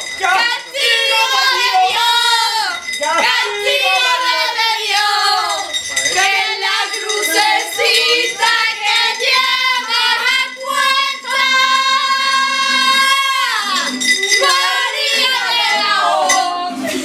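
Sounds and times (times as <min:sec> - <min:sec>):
woman singing pop tune: 0:00.2 - 0:17.0
pop music: 0:00.3 - 0:17.0.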